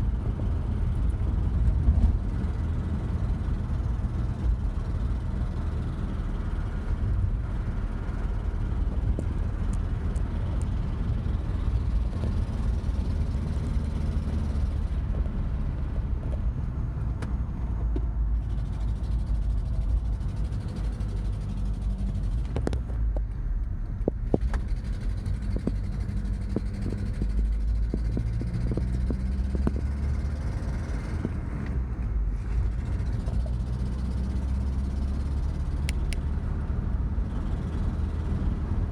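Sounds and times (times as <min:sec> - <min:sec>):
pickup engine with exhaust leak: 0:00.1 - 0:38.9.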